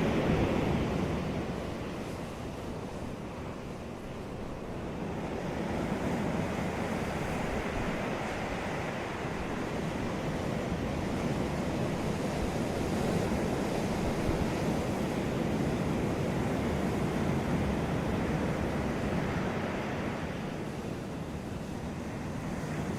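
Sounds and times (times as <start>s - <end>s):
sea waves breaking on beach: 0.0s - 22.9s.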